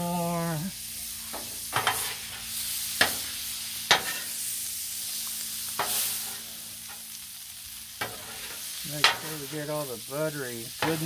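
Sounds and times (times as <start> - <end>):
shrimp sizzling on griddle: 0.0 - 11.0.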